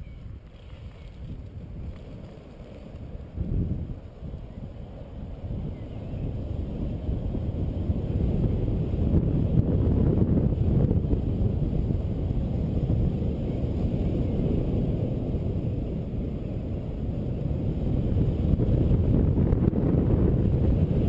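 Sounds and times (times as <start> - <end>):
skate wheels rolling on asphalt: 0.0 - 21.0
wind buffeting microphone: 0.0 - 21.0.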